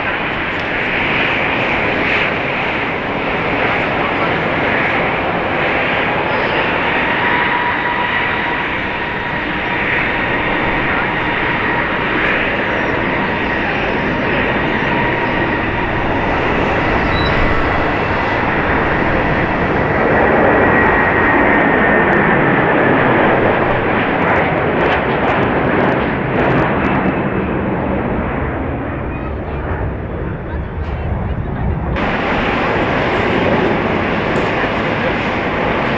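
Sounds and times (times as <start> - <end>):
jet engines whining and rushing: 0.0 - 35.9.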